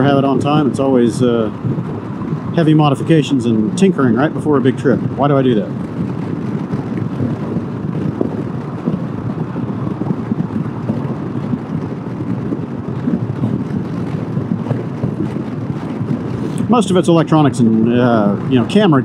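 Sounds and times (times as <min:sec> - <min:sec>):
wind buffeting microphone: 0:00.0 - 0:19.0
wind rush and road noise: 0:00.0 - 0:19.0.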